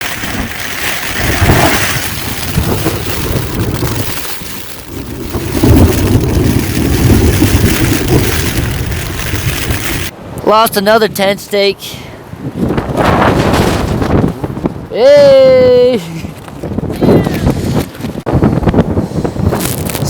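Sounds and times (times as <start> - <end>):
high wind gusting on microphone: 0.0 - 20.0.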